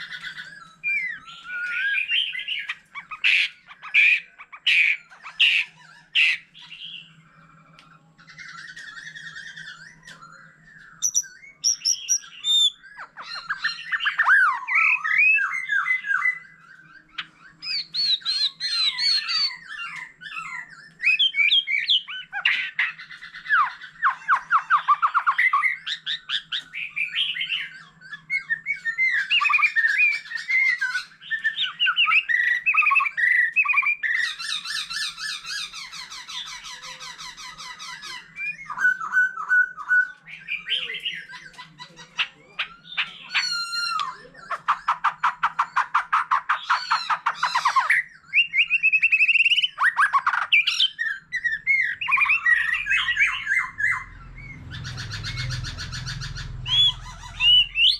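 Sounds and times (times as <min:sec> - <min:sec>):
bird singing whistles and trills: 0:00.0 - 0:57.9.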